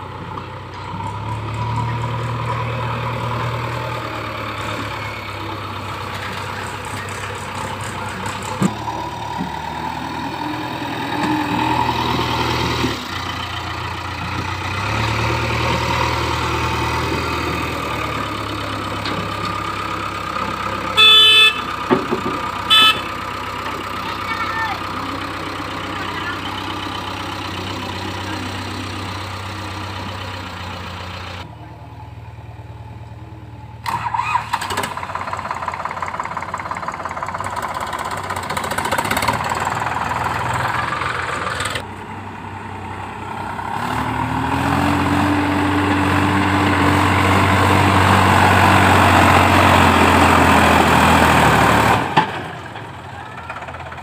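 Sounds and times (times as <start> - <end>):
diesel engines running hard: 0.0 - 54.0.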